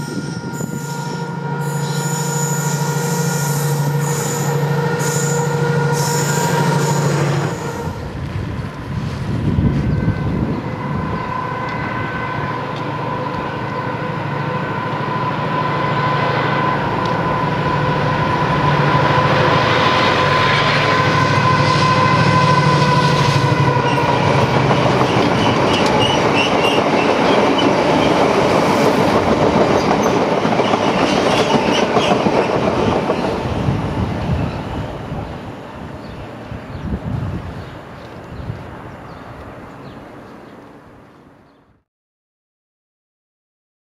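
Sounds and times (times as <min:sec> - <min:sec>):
diesel locomotive whining: 0:00.0 - 0:40.9.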